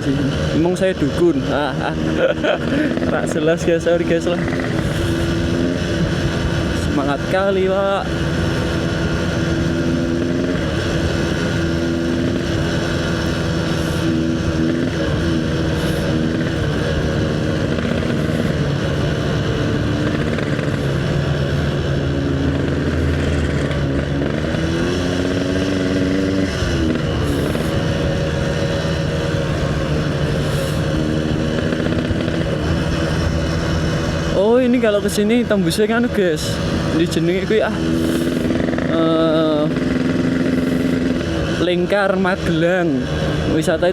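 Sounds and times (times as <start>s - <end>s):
two-stroke motorcycle engine running: 0.0s - 43.9s.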